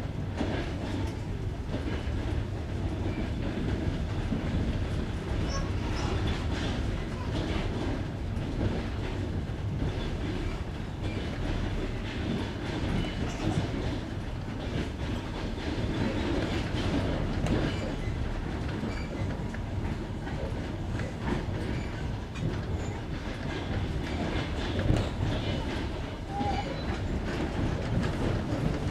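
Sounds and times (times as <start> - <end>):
train wheels clickety-clack: 0.0 - 28.9.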